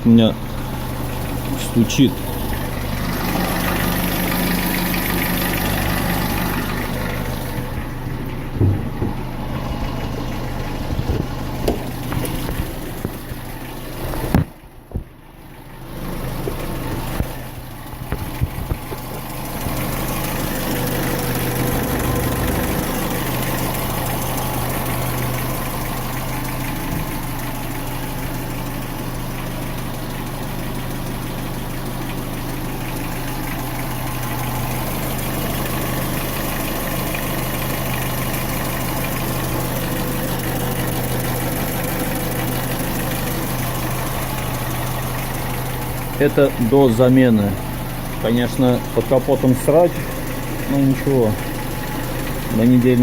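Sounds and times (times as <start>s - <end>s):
car engine idling with a knock: 0.0s - 53.0s.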